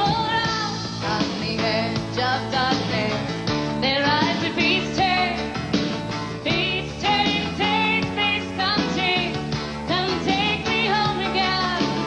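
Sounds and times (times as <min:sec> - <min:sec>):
woman singing with vibrato: 0:00.0 - 0:05.6, 0:06.4 - 0:12.0
folk-rock band playing: 0:00.0 - 0:12.0.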